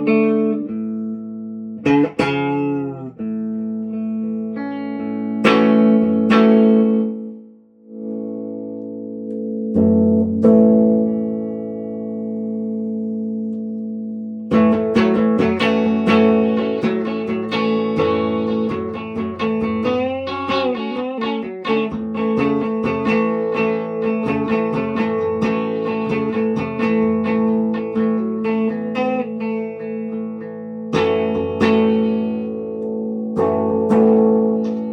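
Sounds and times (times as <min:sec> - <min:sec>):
electric guitar chords ringing: 0:00.0 - 0:34.9
electric guitar picked notes: 0:00.0 - 0:34.9.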